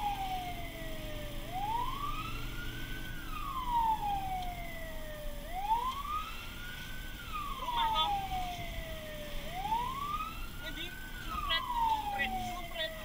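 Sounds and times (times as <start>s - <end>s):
fire truck wail siren: 0.0s - 13.0s
truck rumble: 0.0s - 13.0s.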